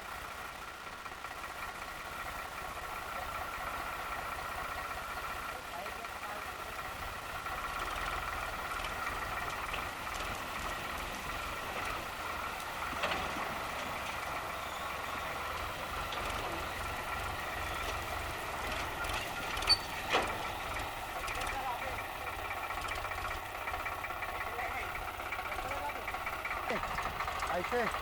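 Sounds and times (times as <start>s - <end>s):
tractor and thresher running: 0.0s - 28.0s.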